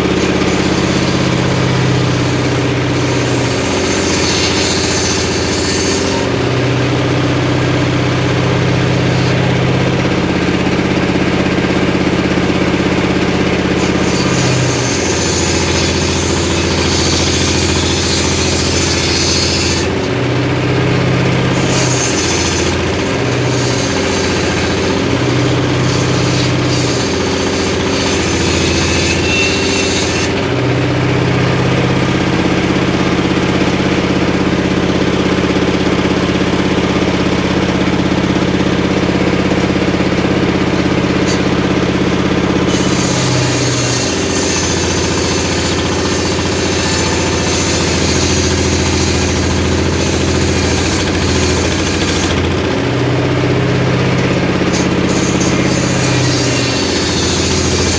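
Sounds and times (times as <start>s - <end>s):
engine-driven circular saw running: 0.0s - 57.9s
saw blade cutting timber: 0.0s - 57.9s.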